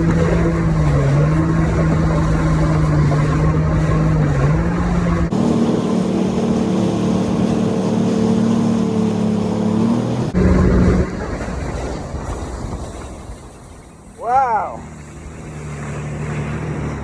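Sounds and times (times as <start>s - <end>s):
jet ski engine running: 0.0s - 17.0s
rushing water: 0.0s - 17.0s
wind: 0.0s - 17.0s.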